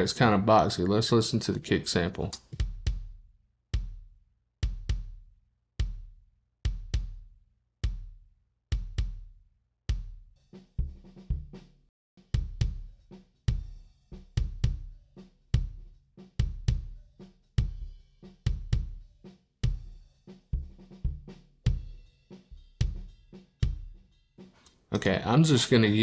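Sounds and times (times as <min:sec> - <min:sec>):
kick and snare drum groove: 0:02.3 - 0:26.0.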